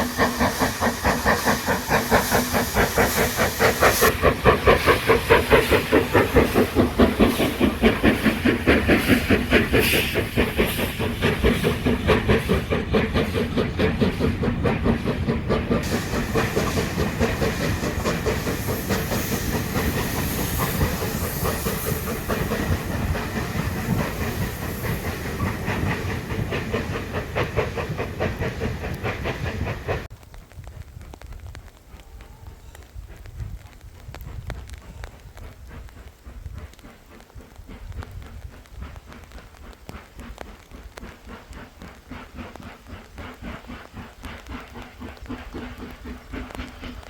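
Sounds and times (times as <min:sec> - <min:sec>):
steam hiss: 0:00.0 - 0:47.0
steam locomotive exhaust beat: 0:00.0 - 0:47.0.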